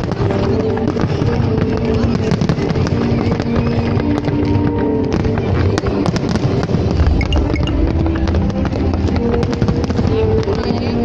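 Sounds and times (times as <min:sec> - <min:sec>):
fireworks crackling and popping: 0:00.0 - 0:11.0
music playing: 0:00.0 - 0:11.0.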